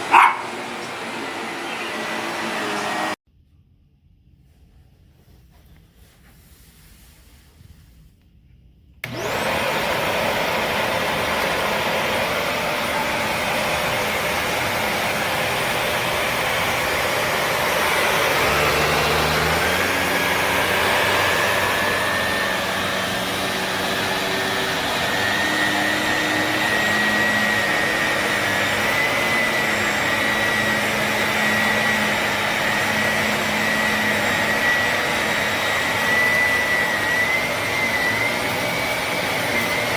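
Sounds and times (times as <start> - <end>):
vacuum cleaner motor whining: 0.0 - 3.2, 9.0 - 39.9.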